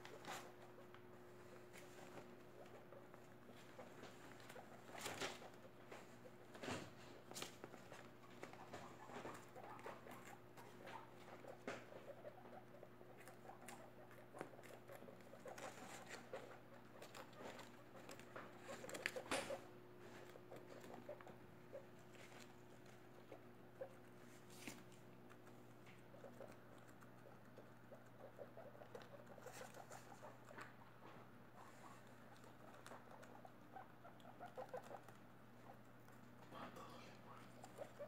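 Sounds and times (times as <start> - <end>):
faint steady hum: 0.0 - 38.0
guinea pigs chewing lettuce: 0.0 - 38.0.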